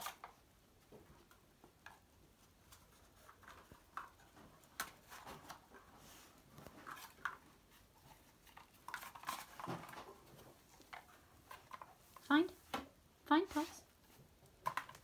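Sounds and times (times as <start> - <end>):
soft rustles of cardboard: 0.0 - 15.0.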